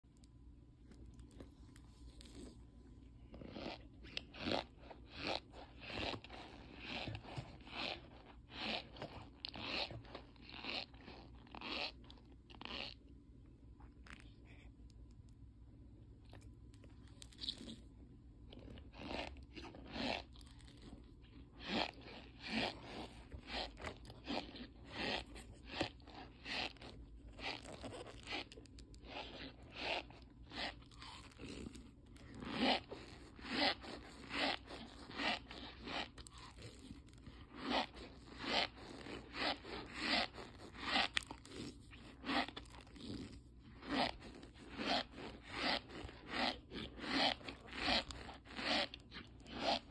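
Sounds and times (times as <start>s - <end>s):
cornstarch crunching and squeaking: 3.3s - 13.1s, 16.9s - 17.9s, 18.5s - 49.9s.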